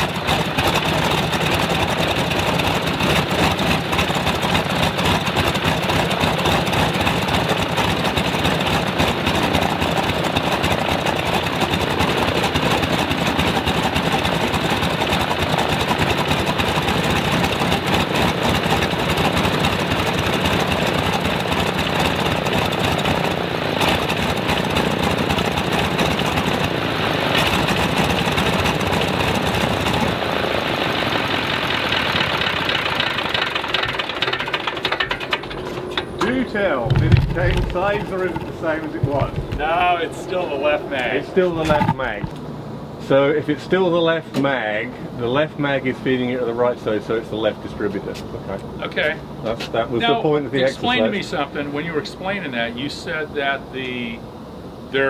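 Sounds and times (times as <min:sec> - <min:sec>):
radial aircraft engine running: 0:00.0 - 0:55.0.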